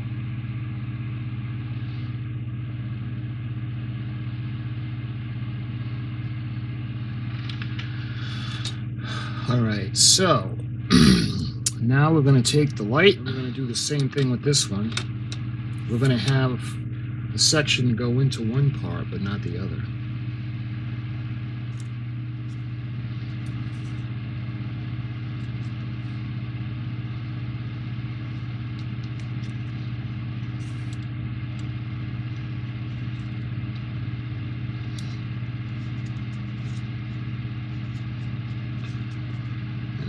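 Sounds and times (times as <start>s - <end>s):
steady low hum with tones: 0.0s - 40.0s.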